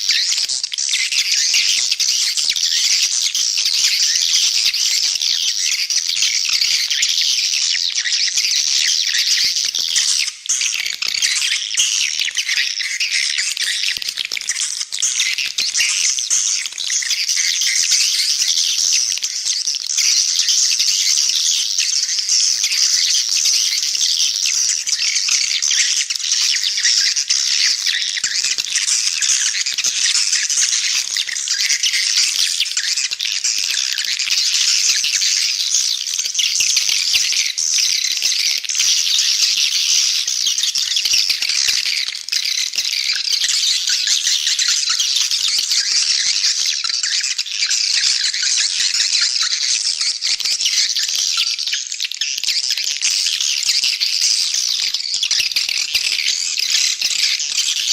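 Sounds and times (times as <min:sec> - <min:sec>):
chorus of bird chirps and twitters: 0:00.0 - 0:57.9.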